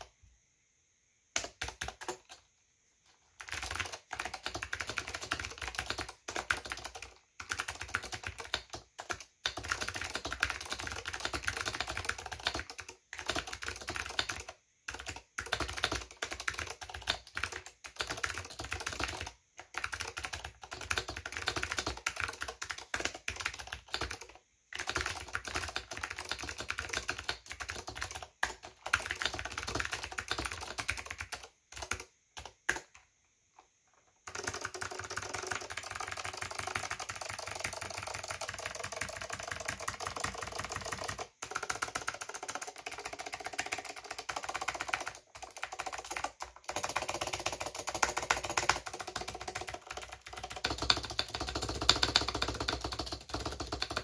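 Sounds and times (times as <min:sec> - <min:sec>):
fast typing on clicky keyboard: 0:01.3 - 0:02.5, 0:03.2 - 0:33.0, 0:34.2 - 0:54.0.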